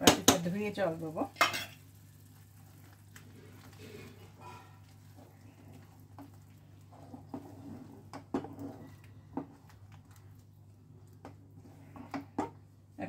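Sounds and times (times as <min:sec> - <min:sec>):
spatula squishing and scraping paste: 0:02.2 - 0:12.7.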